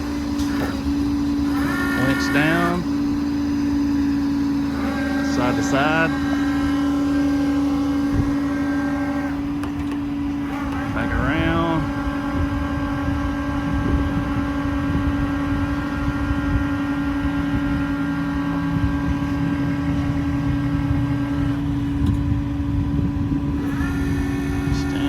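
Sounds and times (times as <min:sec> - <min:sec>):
diesel engine running: 0:00.0 - 0:25.0
hydraulic pump whine: 0:00.0 - 0:25.0.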